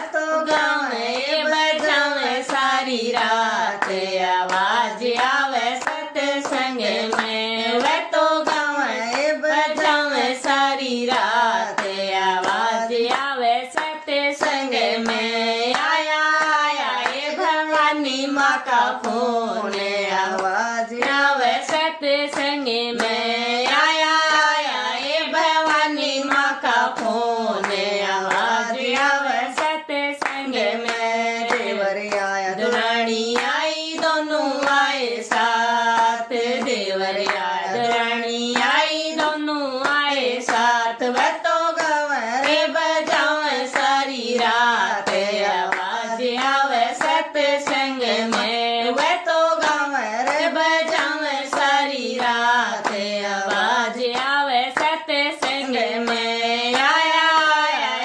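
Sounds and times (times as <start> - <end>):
hand claps: 0.0 - 58.0
woman singing devotional song: 0.0 - 58.0.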